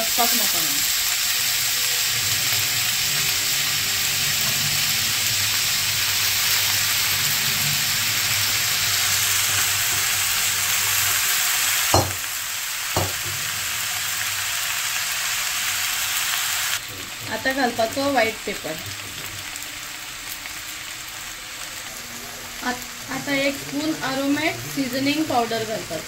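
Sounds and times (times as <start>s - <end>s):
noodles sizzling in a wok: 0.0s - 26.0s.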